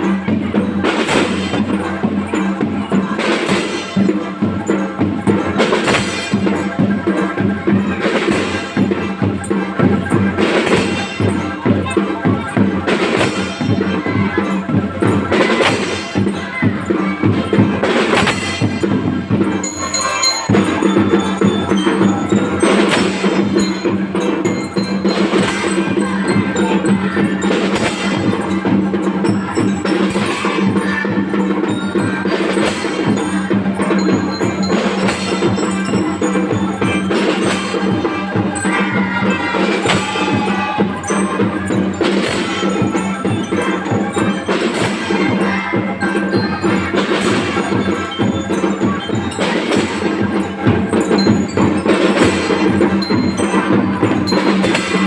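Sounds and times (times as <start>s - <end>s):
drums beating a steady rhythm: 0.0s - 55.0s.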